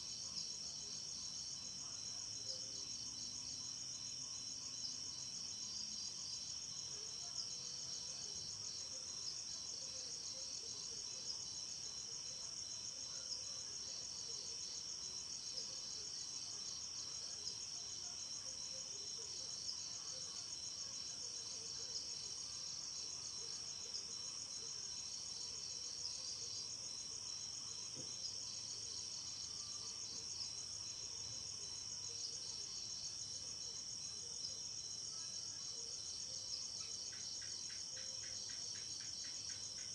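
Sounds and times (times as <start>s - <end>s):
crickets chirping: 0.1s - 39.9s.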